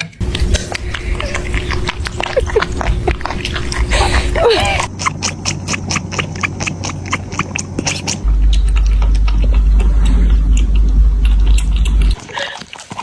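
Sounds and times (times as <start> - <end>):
steady low rumble: 0.2 - 12.2
cat lapping milk: 0.2 - 13.0.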